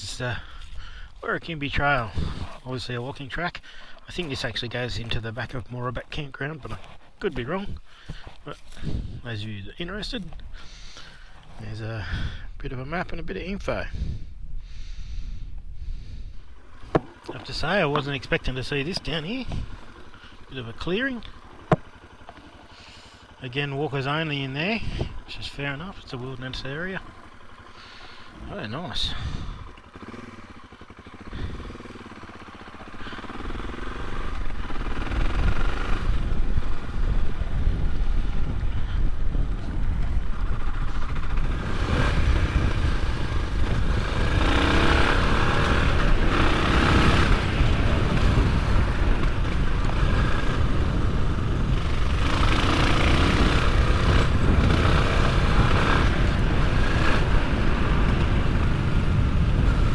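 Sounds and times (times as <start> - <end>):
motorcycle engine pulling away: 0.2 - 9.2, 16.4 - 59.9.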